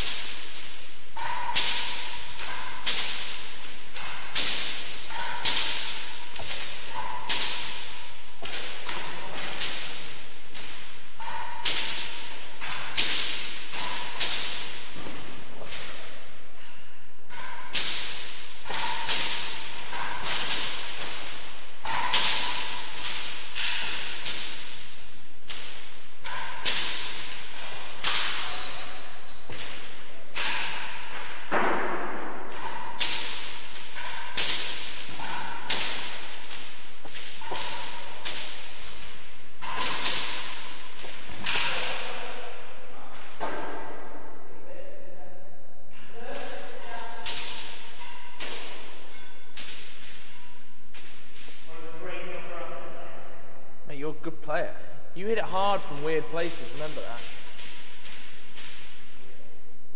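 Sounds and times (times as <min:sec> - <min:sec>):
ball struck by racquets: 0:00.0 - 0:44.3, 0:47.1 - 0:51.7.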